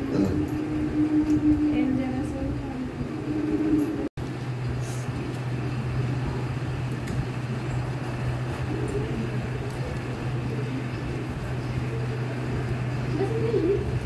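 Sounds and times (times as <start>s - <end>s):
even background noise: 0.0s - 14.0s
steady low hum: 0.0s - 14.0s.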